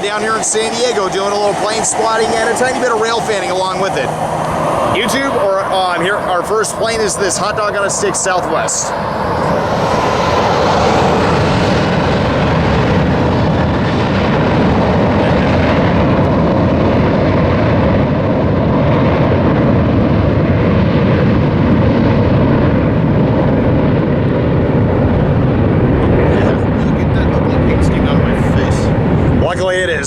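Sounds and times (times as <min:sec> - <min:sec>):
jet engines at takeoff power: 0:00.0 - 0:30.0.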